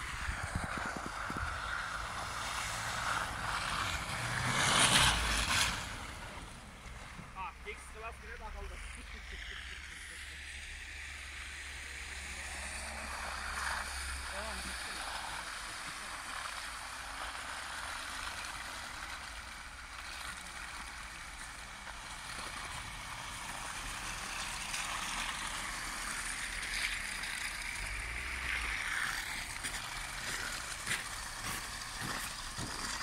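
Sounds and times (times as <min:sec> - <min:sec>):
truck engine rumble: 0:00.0 - 0:33.0
tyres churning wet snow: 0:00.0 - 0:33.0.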